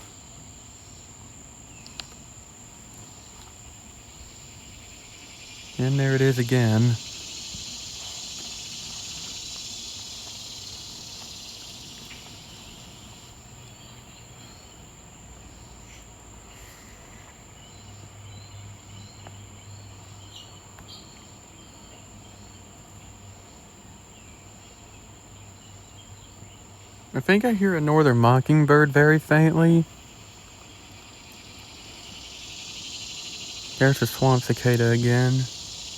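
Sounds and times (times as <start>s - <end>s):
cicada buzzing: 0.0s - 35.9s
crickets trilling: 0.0s - 35.9s.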